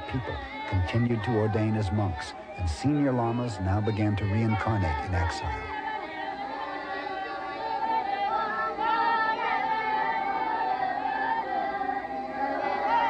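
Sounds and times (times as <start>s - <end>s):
high voices singing together: 0.0s - 13.0s.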